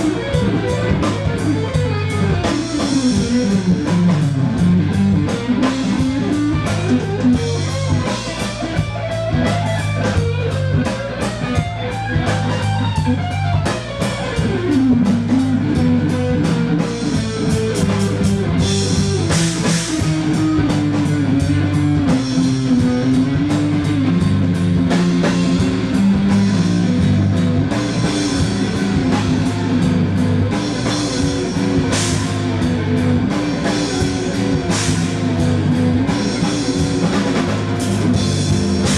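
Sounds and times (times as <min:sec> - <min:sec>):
drum kit beat: 0:00.0 - 0:38.9
guitar melody bending: 0:00.0 - 0:38.9
rock band playing: 0:00.0 - 0:38.9.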